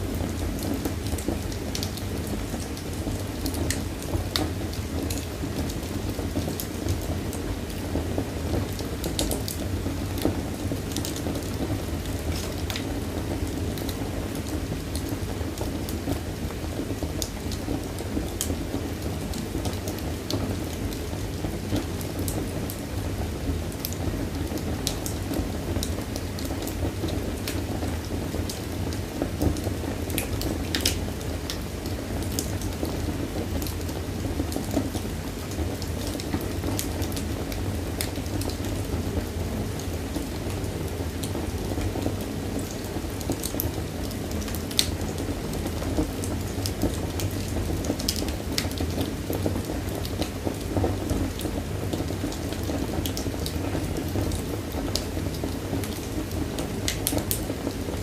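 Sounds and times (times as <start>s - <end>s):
wood fire burning: 0.0s - 58.0s
fire crackling and popping: 0.1s - 58.0s.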